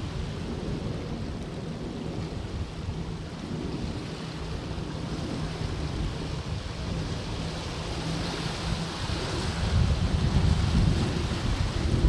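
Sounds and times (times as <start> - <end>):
waves washing over rocks: 0.0 - 12.0
wind on microphone: 0.0 - 12.0.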